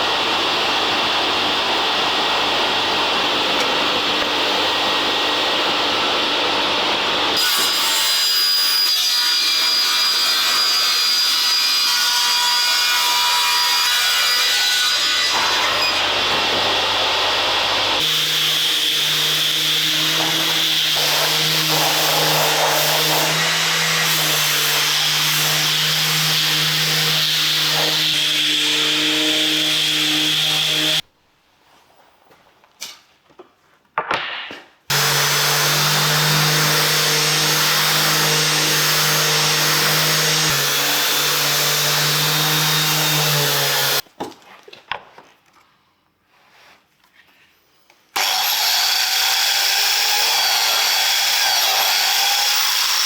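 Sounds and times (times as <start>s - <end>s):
power tools cutting wood: 0.1s - 31.0s, 34.9s - 44.0s, 48.2s - 53.0s.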